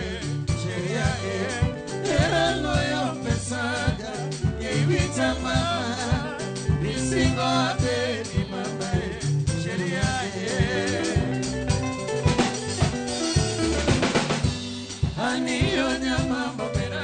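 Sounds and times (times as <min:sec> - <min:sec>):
men singing: 0:00.0 - 0:12.1, 0:15.0 - 0:17.0
drum kit beat: 0:00.0 - 0:17.0
electric bass guitar: 0:00.0 - 0:17.0
guitar: 0:00.0 - 0:17.0.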